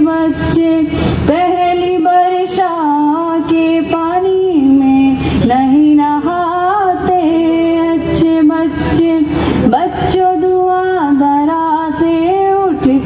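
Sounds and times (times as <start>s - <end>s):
girl singing into microphone: 0.0s - 13.0s.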